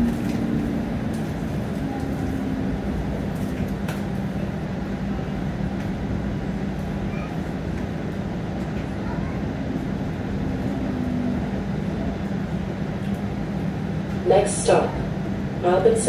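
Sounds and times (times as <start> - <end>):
streetcar wheels and motors rumbling: 0.0 - 16.0.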